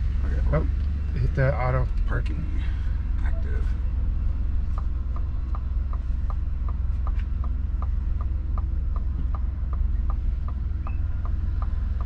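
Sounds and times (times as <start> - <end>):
low vehicle hum: 0.0 - 12.0.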